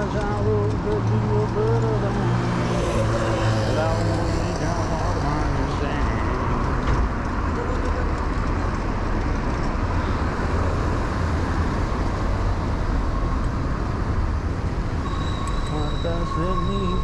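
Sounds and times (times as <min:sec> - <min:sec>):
cars and buses passing: 0:00.0 - 0:17.0.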